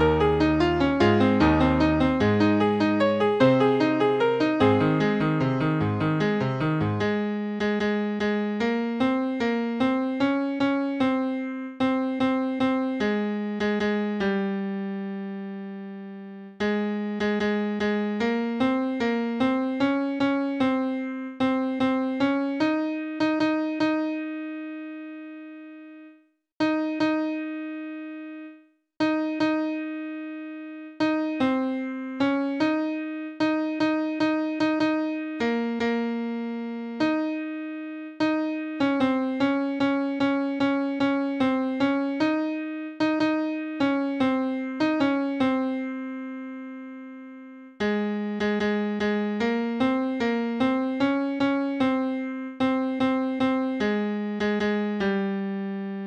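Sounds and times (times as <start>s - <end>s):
hymn played in piano tone: 0.0s - 56.0s.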